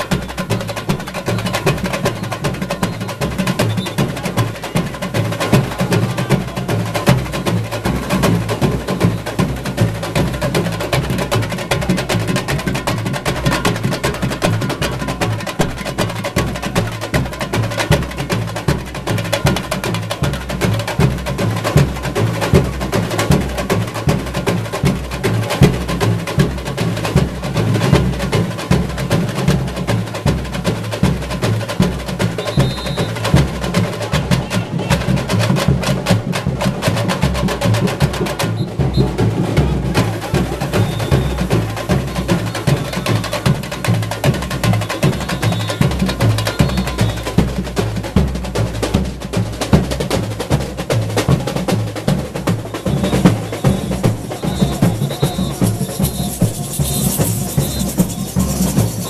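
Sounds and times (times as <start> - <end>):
deep bass drum beat: 0.0 - 59.0.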